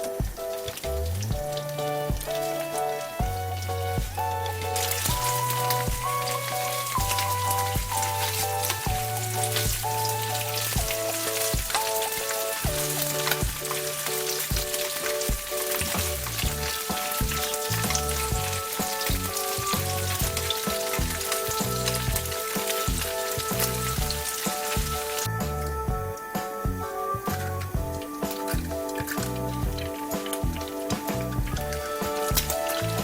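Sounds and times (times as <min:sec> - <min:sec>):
food sizzling in a pan: 0:00.0 - 0:25.3, 0:26.4 - 0:33.0
light background melody: 0:00.0 - 0:33.0.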